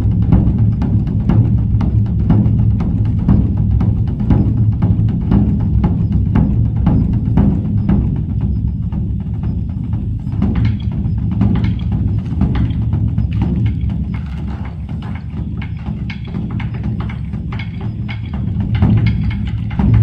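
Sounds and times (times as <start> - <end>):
music with percussive beat: 0.0 - 20.0.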